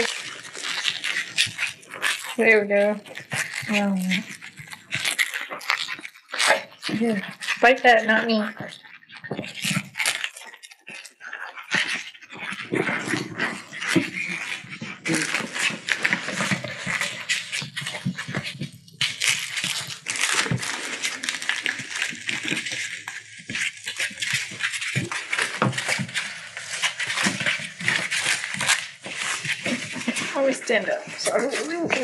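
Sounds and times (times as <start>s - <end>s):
puppies chewing and tugging toy: 0.0s - 32.0s
puppies scrabbling on hard floor: 0.0s - 32.0s.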